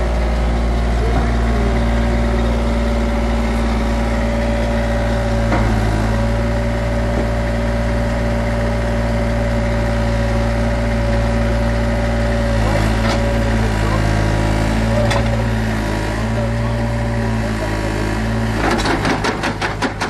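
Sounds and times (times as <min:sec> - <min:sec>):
excavator diesel engine idling: 0:00.0 - 0:20.0.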